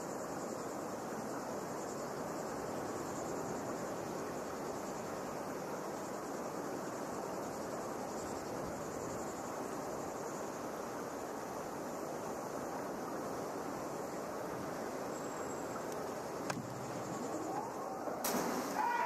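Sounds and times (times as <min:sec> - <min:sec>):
steady ambient hiss: 0:00.0 - 0:19.0.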